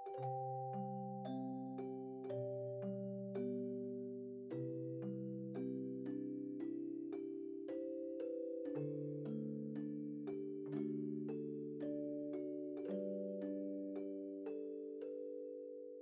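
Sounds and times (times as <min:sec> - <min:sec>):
vibraphone notes: 0:00.0 - 0:16.0.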